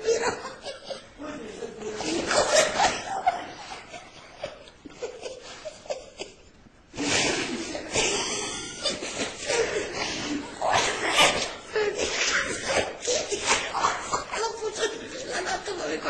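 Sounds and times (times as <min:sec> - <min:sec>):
laughter in bursts: 0:00.0 - 0:06.6, 0:07.2 - 0:16.0.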